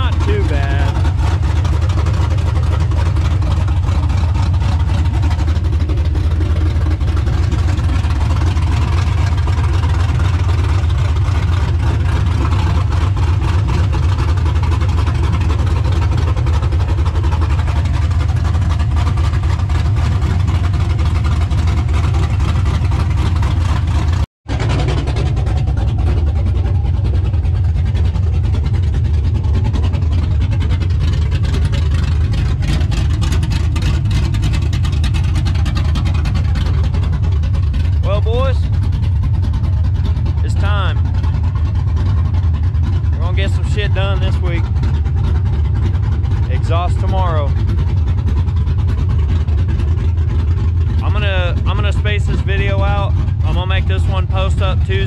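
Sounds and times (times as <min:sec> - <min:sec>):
engine idling without exhaust: 0:00.0 - 0:55.0.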